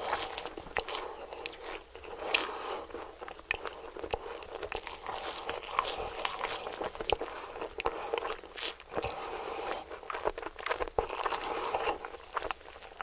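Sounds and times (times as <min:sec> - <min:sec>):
crunchy chewing of fried food: 0:00.0 - 0:13.0.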